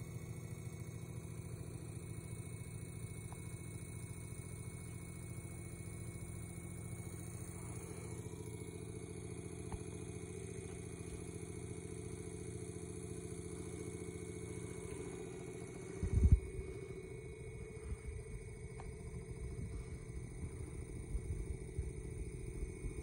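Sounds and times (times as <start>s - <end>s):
electric fan humming: 1.4s - 23.0s.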